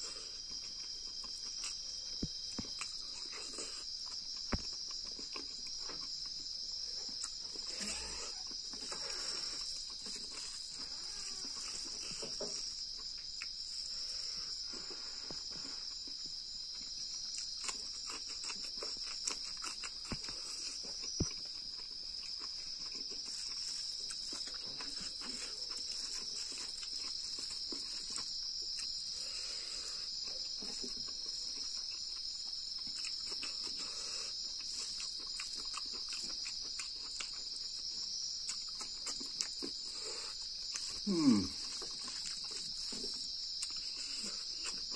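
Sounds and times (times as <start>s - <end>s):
high-pitched insect chorus: 0.0s - 44.9s
chewing with wet clicks: 0.4s - 12.0s, 15.9s - 29.2s, 30.1s - 41.0s, 41.6s - 44.9s.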